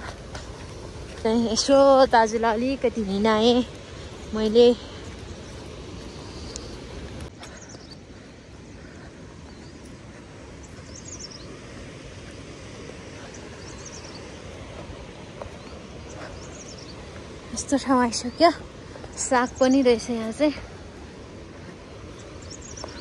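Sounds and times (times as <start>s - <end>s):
rushing outdoor hiss: 0.0s - 23.0s.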